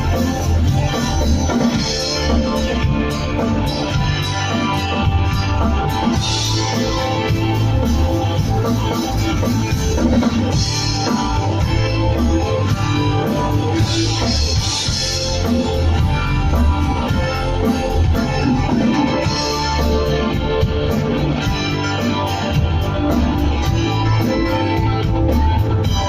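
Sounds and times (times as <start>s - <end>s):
bass line: 0.0s - 26.0s
instrumental rock music: 0.0s - 26.0s.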